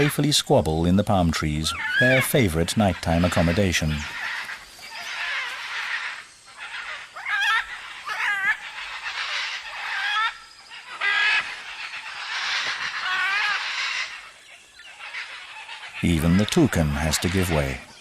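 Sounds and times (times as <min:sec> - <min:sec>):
macaws squawking: 0:00.0 - 0:18.0.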